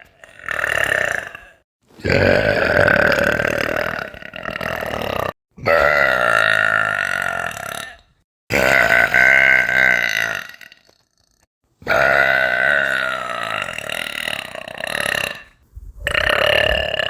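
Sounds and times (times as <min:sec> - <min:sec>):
woman belching: 0:00.1 - 0:10.9, 0:11.9 - 0:17.0.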